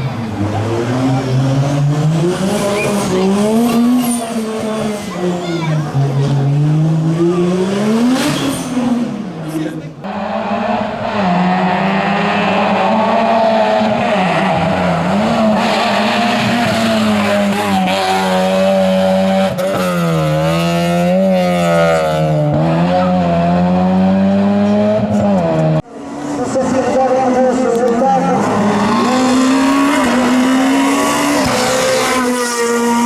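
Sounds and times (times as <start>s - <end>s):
car engine at high revs: 0.0s - 33.0s.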